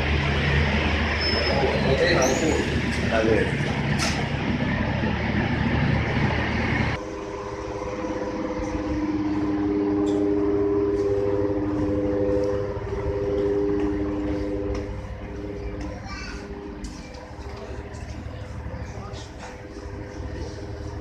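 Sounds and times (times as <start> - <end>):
loud rumbling rush: 0.0 - 21.0
machinery hum with held tones: 0.0 - 21.0.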